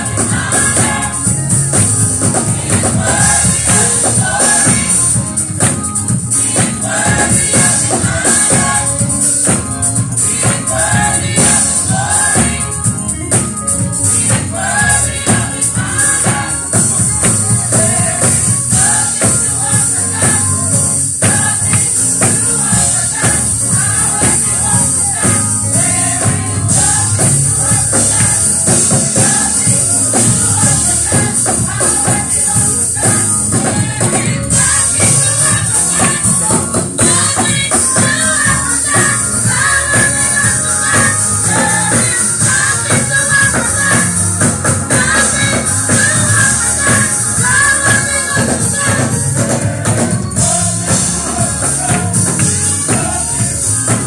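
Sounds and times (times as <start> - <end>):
gospel choir singing: 0.0 - 54.0.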